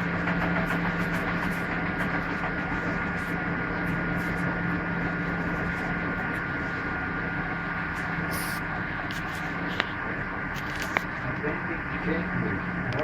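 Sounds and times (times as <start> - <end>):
washing machine motor whine: 0.0 - 13.0.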